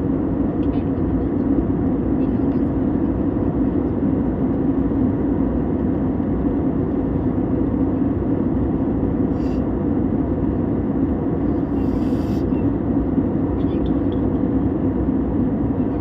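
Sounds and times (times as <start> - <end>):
aeroplane engine roar: 0.0 - 16.0.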